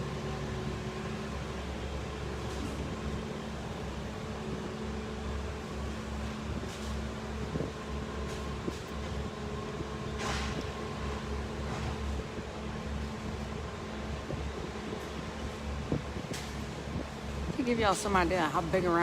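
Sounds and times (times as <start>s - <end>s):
large engine running: 0.0s - 19.0s.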